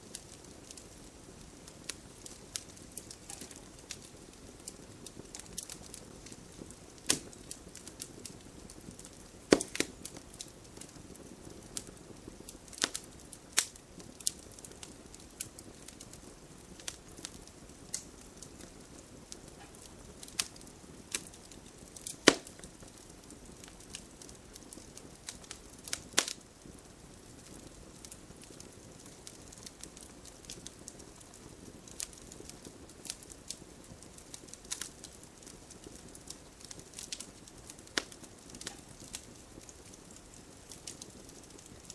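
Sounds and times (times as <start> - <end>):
campfire crackling and popping: 0.0 - 41.9
low hiss of burning: 0.0 - 41.9.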